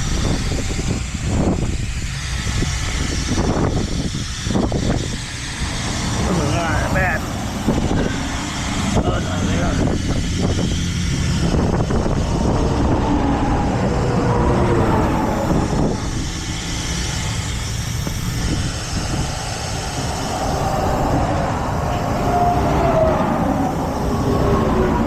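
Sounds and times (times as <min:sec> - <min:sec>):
faint whine sliding in pitch: 0:00.0 - 0:25.0
heavy truck rumbling: 0:00.0 - 0:25.0.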